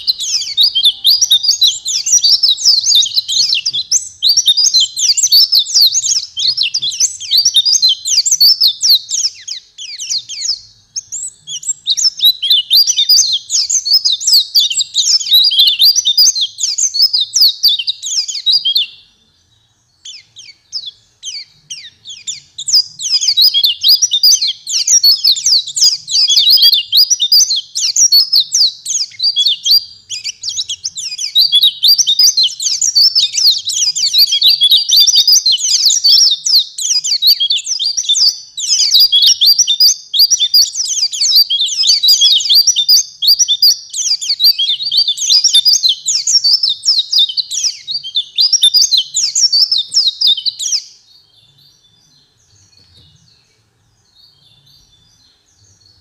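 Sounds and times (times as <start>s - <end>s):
bird song with chirps and trills: 0.0s - 56.0s
faint scattered bird chirps: 0.0s - 56.0s.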